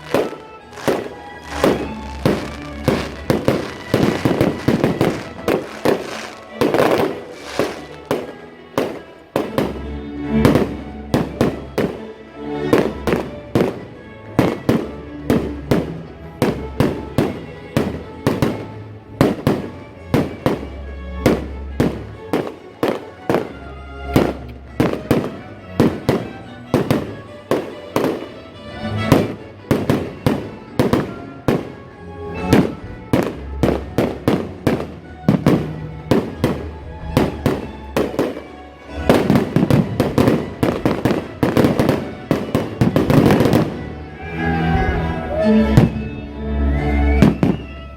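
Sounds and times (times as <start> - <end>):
fireworks bursting with sharp bangs: 0.0 - 12.0, 12.7 - 31.8, 32.4 - 43.9, 47.2 - 47.8.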